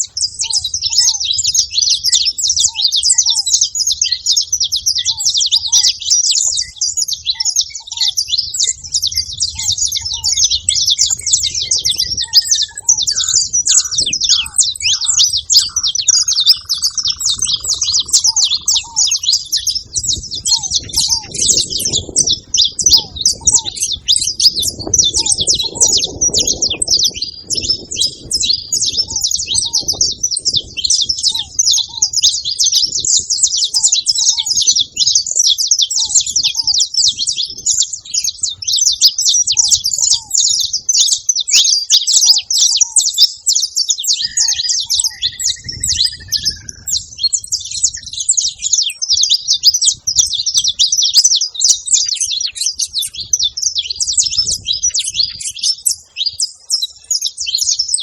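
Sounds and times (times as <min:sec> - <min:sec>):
finches chirping: 0:00.0 - 0:58.0.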